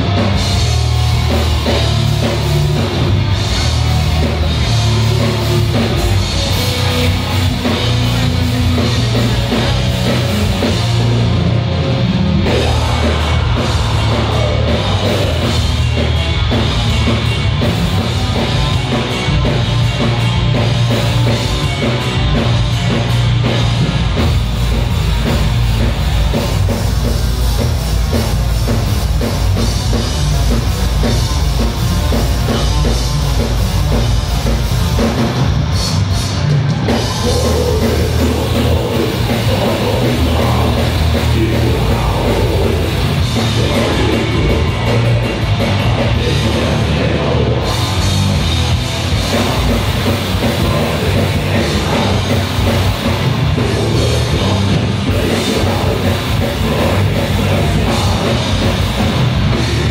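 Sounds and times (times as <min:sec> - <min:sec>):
distorted guitars and bass: 0:00.0 - 0:59.9
pounding drums: 0:00.0 - 0:59.9.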